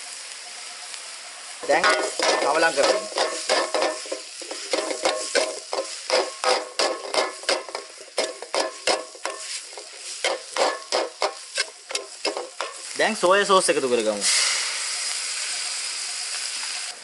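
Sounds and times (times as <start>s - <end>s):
stir-fry sizzling: 0.0s - 17.0s.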